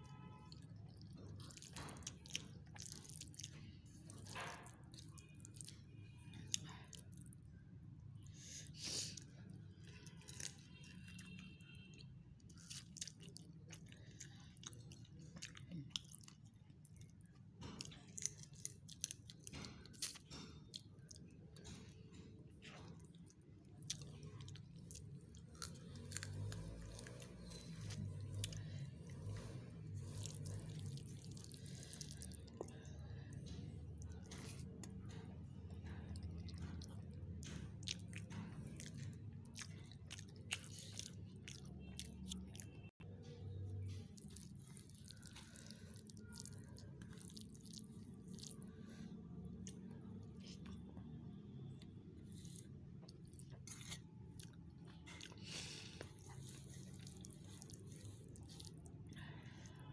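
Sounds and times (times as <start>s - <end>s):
chewing: 0.1s - 7.6s, 8.3s - 59.9s.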